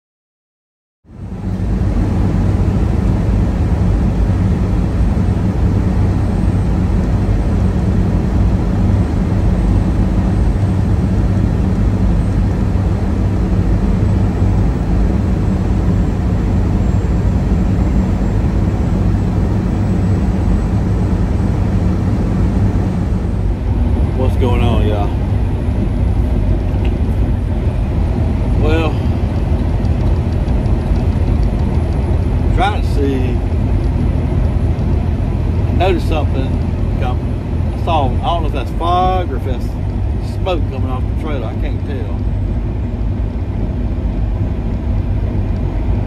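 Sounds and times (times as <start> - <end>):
diesel truck engine droning: 1.1 - 46.0
road and cab noise: 1.1 - 46.0.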